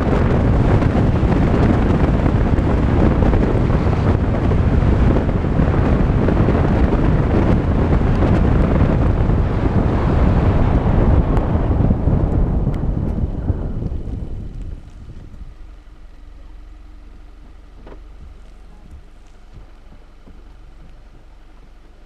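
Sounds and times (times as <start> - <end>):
tyres rumbling on gravel: 0.0 - 22.0
wind buffeting microphone: 0.0 - 22.0.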